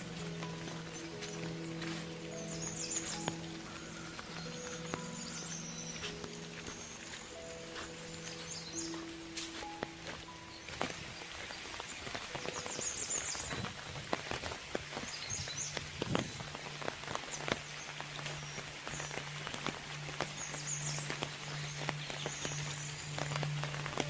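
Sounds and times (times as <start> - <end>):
rain drops ticking: 0.0 - 24.0
rain hiss: 0.0 - 24.0.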